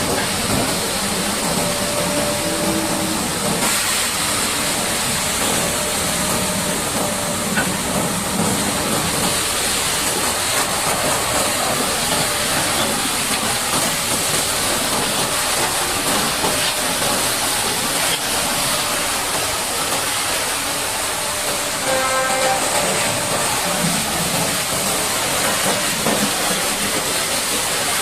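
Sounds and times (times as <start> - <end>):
high-pressure water jet hissing: 0.0 - 28.0.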